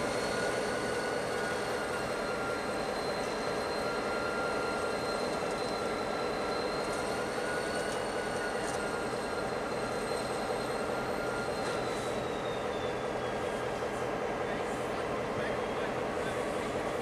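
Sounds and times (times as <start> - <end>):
diesel locomotive engine running: 0.0 - 17.0
high-pitched whine: 0.0 - 17.0.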